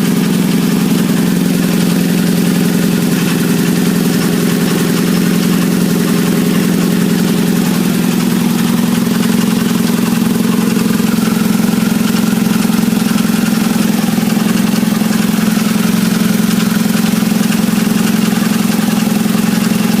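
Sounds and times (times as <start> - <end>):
car engine idling with rattle: 0.0 - 20.0.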